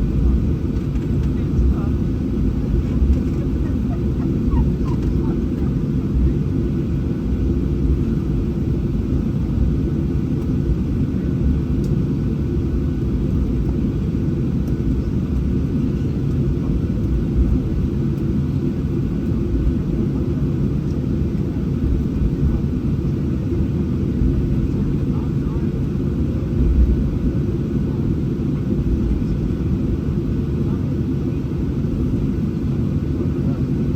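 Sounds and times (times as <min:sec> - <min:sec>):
airplane cabin engine rumble: 0:00.0 - 0:33.9.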